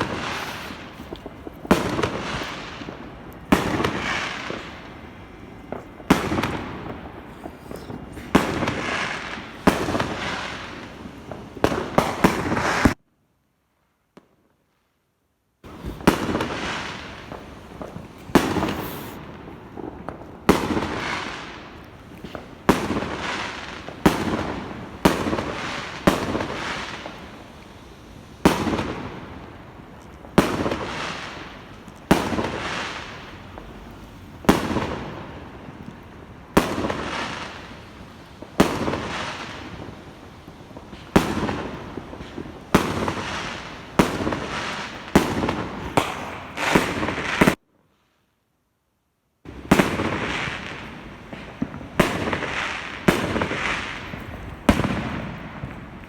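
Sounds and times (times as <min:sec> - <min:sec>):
fireworks banging: 0:00.0 - 0:13.0, 0:15.6 - 0:47.6, 0:49.5 - 0:56.0.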